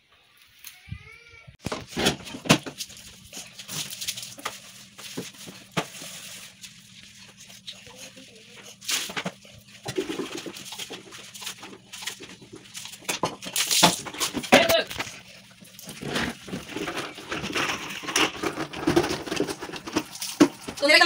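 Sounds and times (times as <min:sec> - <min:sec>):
scrubbing a toilet bowl: 0:01.6 - 0:21.0.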